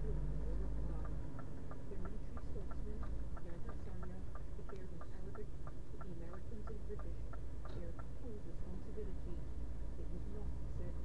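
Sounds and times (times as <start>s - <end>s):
turn signal ticking: 0.0s - 9.4s
engine and road rumble: 0.0s - 11.0s.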